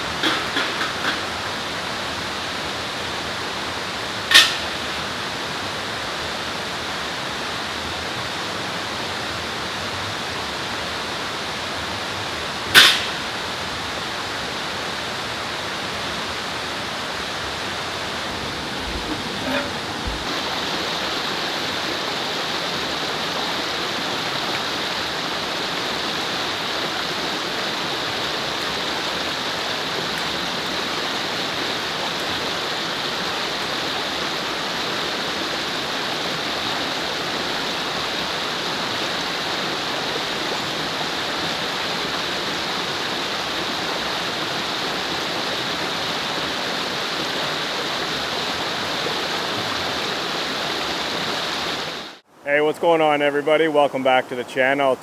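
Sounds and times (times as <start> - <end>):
creek rushing over rapids: 0.0 - 55.0.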